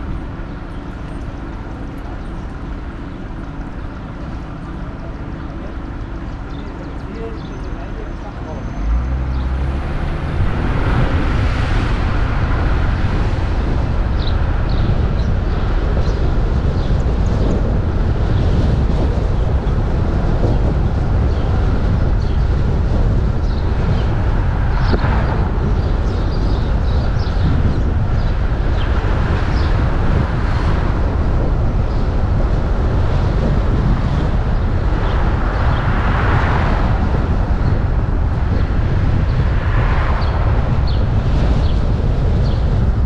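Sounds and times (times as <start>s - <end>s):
vehicle road noise: 0.0s - 43.0s
wind buffeting microphone: 0.0s - 43.0s.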